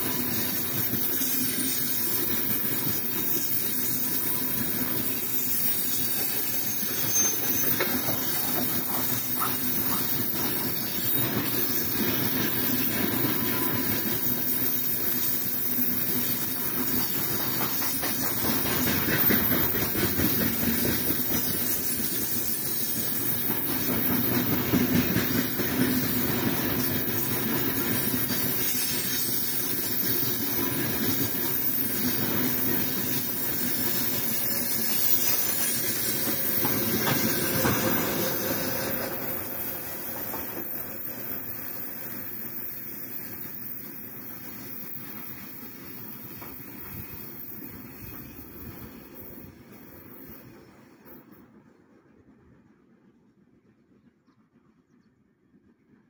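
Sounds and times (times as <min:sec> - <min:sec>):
steel wheels rumbling on rails: 0:00.0 - 0:52.2.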